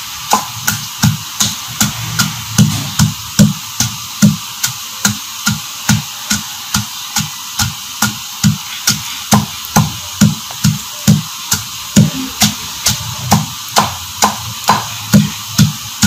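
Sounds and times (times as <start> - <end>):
pestle pounding in clay mortar: 0.0 - 16.0.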